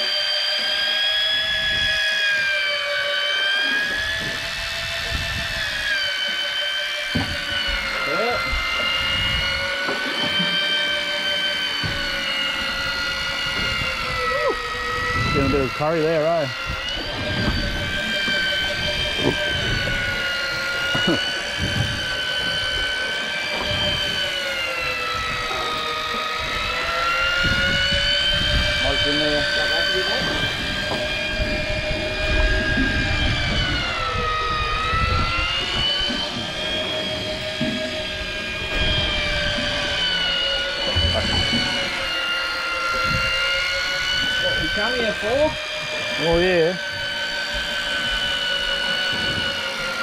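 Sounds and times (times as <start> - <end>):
fishing reel motor whine: 0.0 - 50.0.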